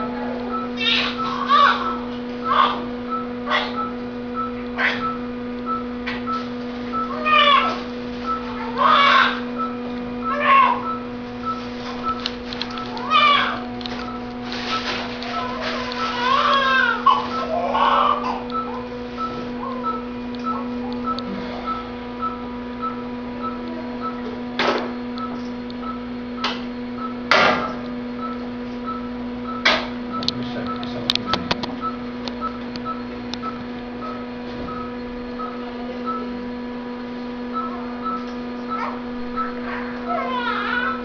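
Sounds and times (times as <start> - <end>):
electrical equipment hum: 0.0 - 41.0
monitor beeping: 0.0 - 41.0.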